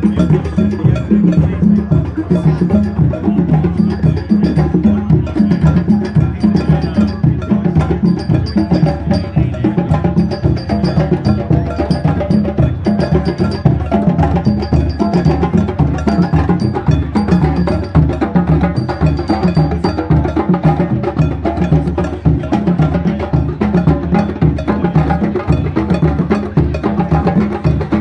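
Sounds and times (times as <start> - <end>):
hand drums playing fast rhythm: 0.0 - 28.0.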